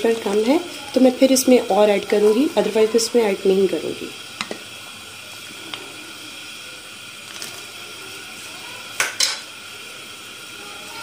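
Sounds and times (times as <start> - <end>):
soup boiling: 0.0 - 11.0.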